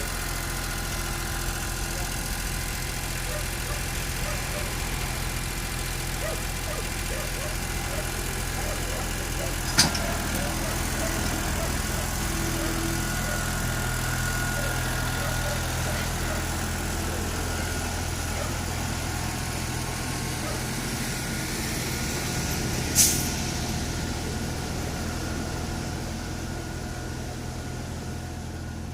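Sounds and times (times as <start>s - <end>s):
engine running: 0.0s - 28.9s.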